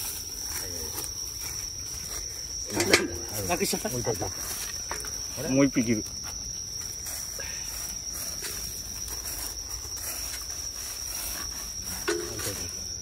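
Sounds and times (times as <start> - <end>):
crickets trilling: 0.0 - 13.0
hands digging through soil and leaves: 0.0 - 13.0.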